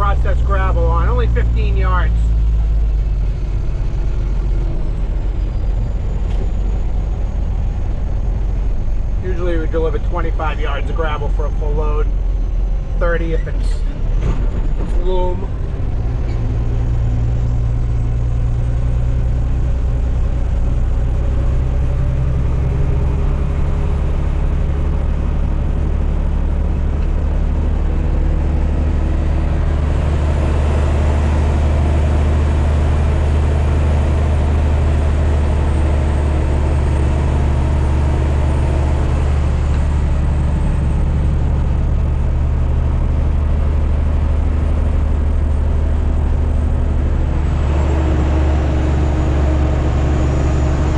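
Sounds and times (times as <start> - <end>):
dump truck diesel engine drone: 0.0 - 50.9.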